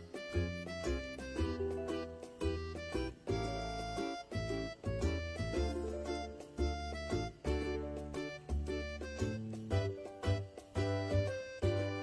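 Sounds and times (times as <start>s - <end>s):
bouncy playful tune: 0.0s - 12.0s.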